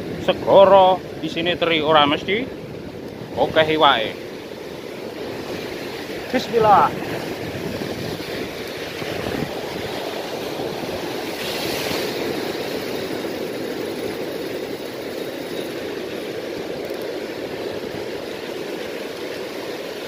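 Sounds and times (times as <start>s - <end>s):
surf washing against rocks: 0.0s - 20.0s.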